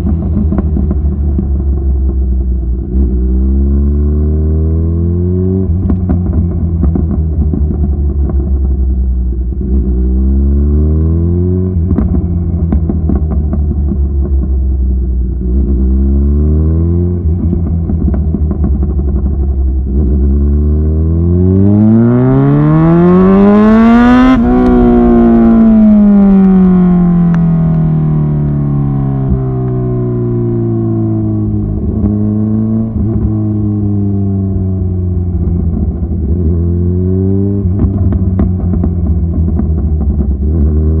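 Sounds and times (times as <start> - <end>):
exhaust popping and crackling: 0.0 - 3.8, 5.5 - 10.4, 11.0 - 41.0
motorcycle engine revving: 0.0 - 41.0.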